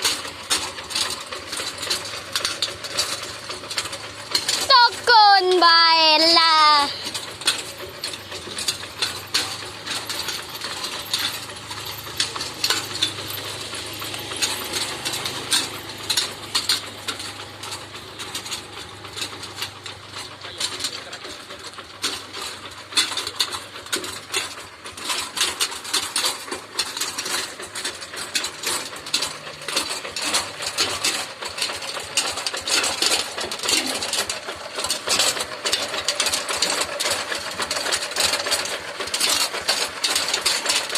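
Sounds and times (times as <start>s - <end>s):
metallic clatter: 0.0s - 40.9s
tractor engine hum: 0.0s - 40.9s.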